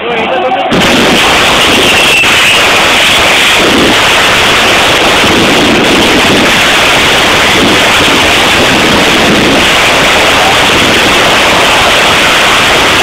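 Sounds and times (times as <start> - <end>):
firecrackers crackling: 0.7 - 13.0.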